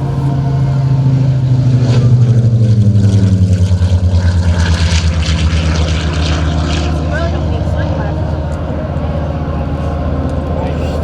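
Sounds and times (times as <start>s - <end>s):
propeller plane passing low: 0.0s - 11.0s.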